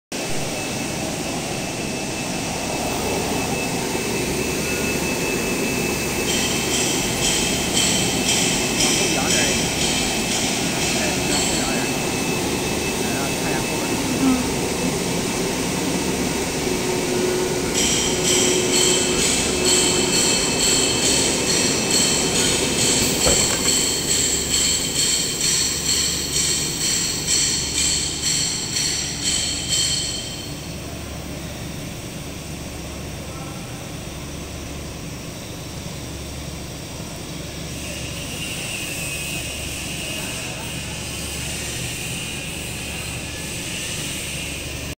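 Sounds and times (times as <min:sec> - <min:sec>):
high-pitched pulsing whine: 0:00.2 - 0:44.9.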